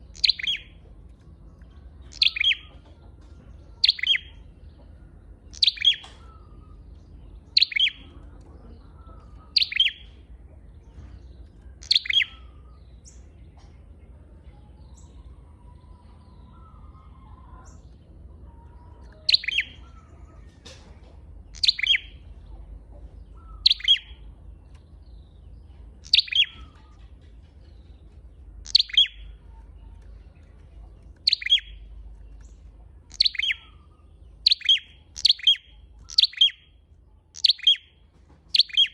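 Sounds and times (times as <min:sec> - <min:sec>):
bird high chirps: 0:00.0 - 0:10.3, 0:10.9 - 0:13.9, 0:14.5 - 0:20.8, 0:21.4 - 0:38.9.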